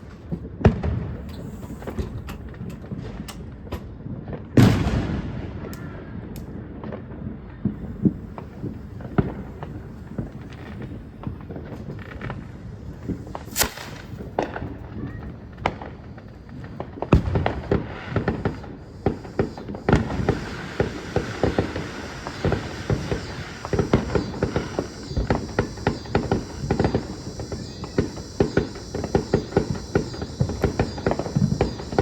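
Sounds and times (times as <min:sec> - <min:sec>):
fireworks cracking and popping: 0:00.0 - 0:32.0.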